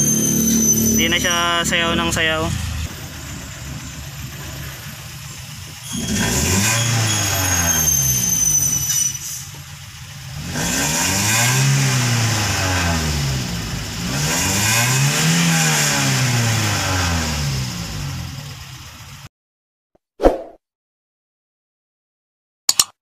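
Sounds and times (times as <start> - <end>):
car engine revving: 0.0 - 8.9, 9.6 - 19.2.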